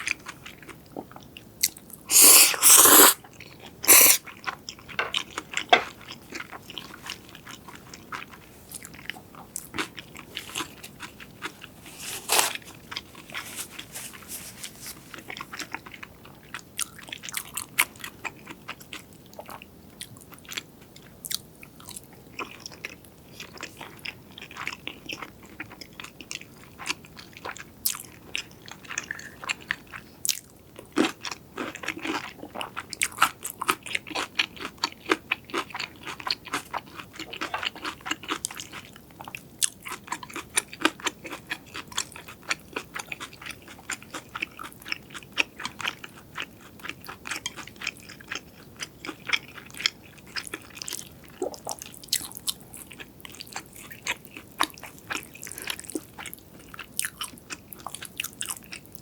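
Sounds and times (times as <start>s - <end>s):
crunchy food chewing: 0.0s - 59.0s.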